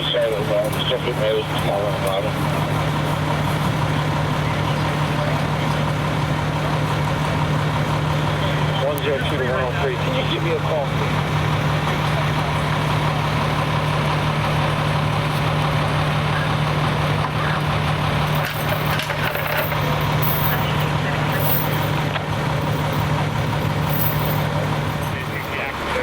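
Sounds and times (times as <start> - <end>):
fire engine idling: 0.0 - 26.0.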